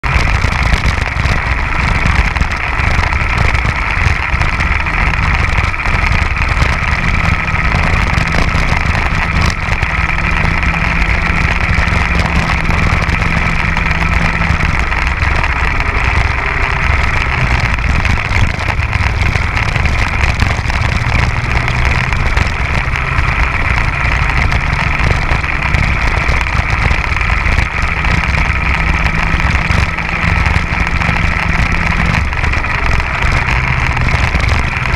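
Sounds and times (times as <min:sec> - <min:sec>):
two-stroke kart engine racing: 0:00.0 - 0:34.9.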